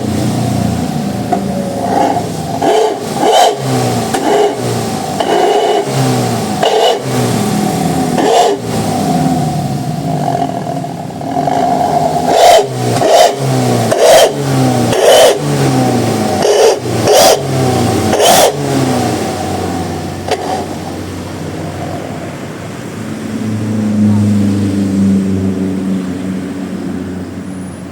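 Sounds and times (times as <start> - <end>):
motorcycle engine revving: 0.0 - 27.3.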